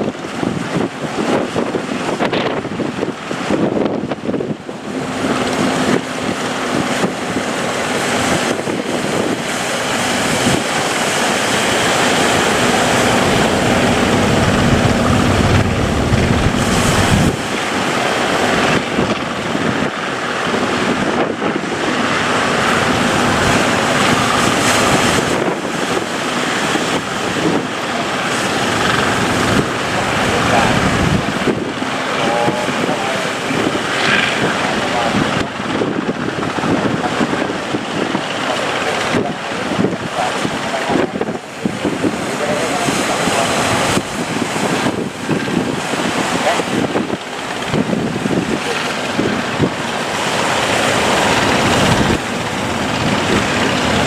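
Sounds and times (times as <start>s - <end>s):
boat engine running: 0.0s - 54.0s
waves rushing: 0.0s - 54.0s
wind on microphone: 0.0s - 54.0s.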